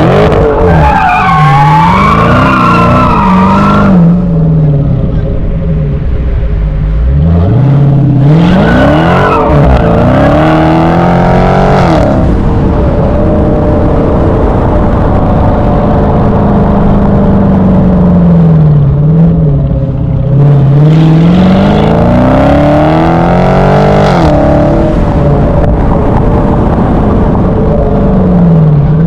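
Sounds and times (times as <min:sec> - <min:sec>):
loud engine revving: 0:00.0 - 0:04.3, 0:07.0 - 0:18.6, 0:20.4 - 0:29.0.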